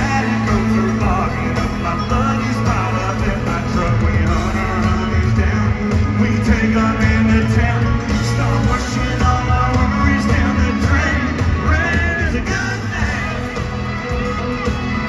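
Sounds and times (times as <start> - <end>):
live country rock band: 0.0 - 15.0.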